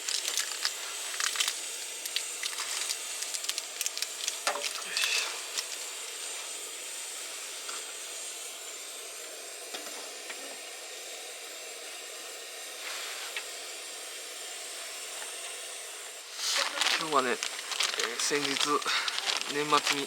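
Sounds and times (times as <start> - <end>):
pot of broth hissing: 0.0 - 20.0.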